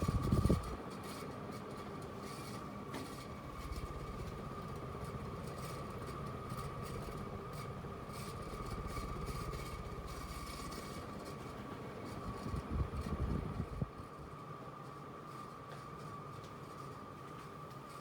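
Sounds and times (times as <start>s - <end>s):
ceiling fan humming: 0.0s - 18.0s.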